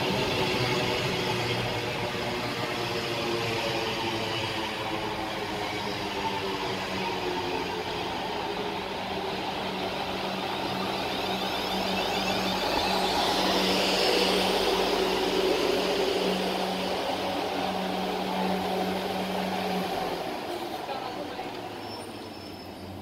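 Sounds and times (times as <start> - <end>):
electric train hum and whine: 0.0 - 23.0.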